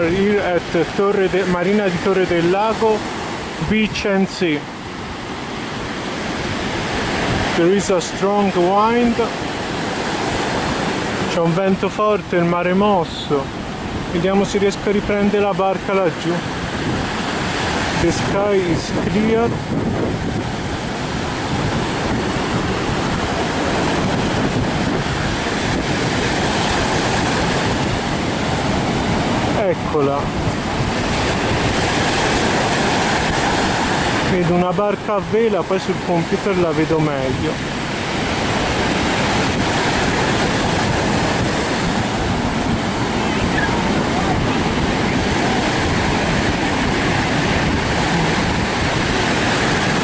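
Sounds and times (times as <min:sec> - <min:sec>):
sea surf breaking: 0:00.0 - 0:50.0
wind blowing across microphone: 0:00.0 - 0:50.0.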